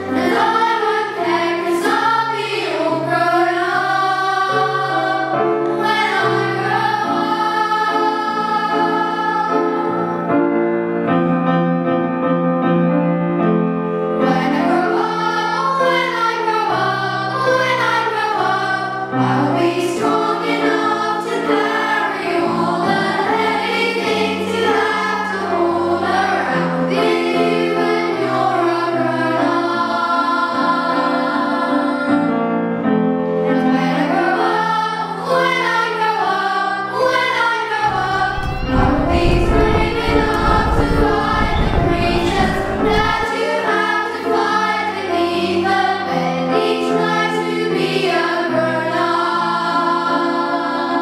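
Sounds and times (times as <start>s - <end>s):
choir singing over held chords: 0.0s - 11.0s, 14.2s - 51.0s.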